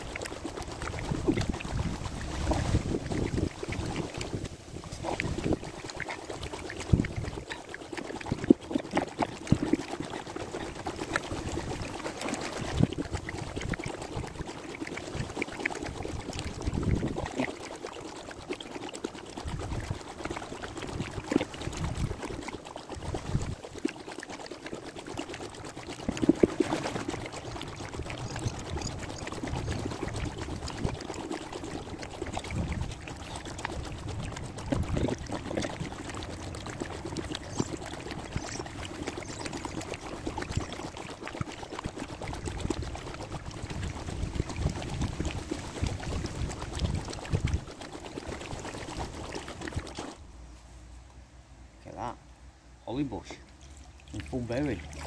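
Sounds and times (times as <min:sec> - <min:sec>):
paddle strokes in water: 0:00.0 - 0:19.1, 0:19.8 - 0:50.3
water trickling off paddle: 0:00.0 - 0:51.1, 0:52.9 - 0:55.0.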